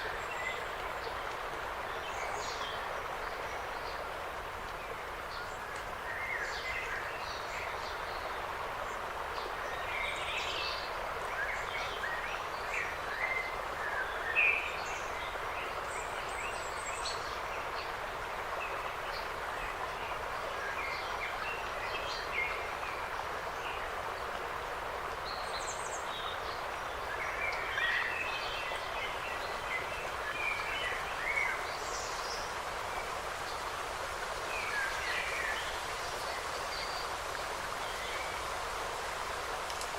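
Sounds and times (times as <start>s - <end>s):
rushing background hiss: 0.0s - 39.9s.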